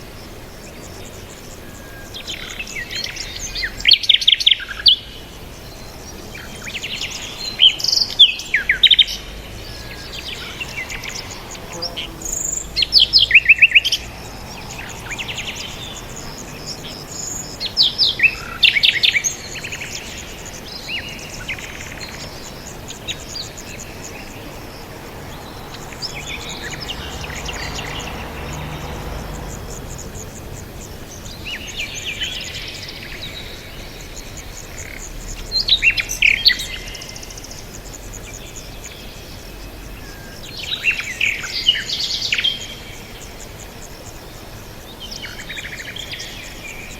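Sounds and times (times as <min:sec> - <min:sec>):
outdoor background hiss: 0:00.0 - 0:46.9
songbirds chirping: 0:00.0 - 0:46.9.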